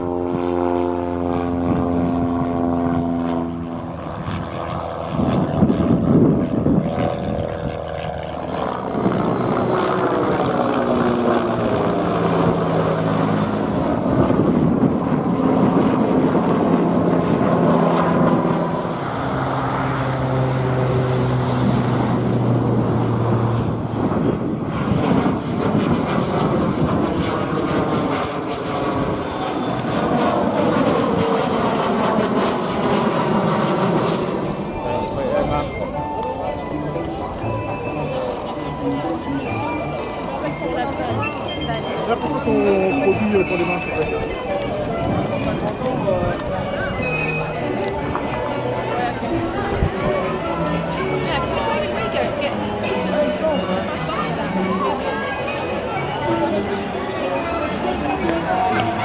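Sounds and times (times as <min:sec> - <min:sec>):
high jet whine: 0:00.0 - 0:59.0
jet airliner climbing past: 0:00.0 - 0:59.0
light aircraft propeller engine droning: 0:00.0 - 0:59.0.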